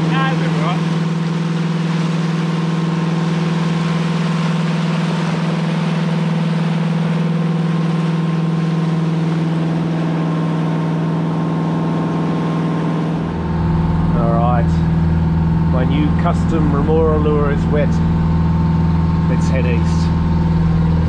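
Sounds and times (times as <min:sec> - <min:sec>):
boat diesel engine humming: 0:00.0 - 0:21.0
wake churning water: 0:00.0 - 0:21.0.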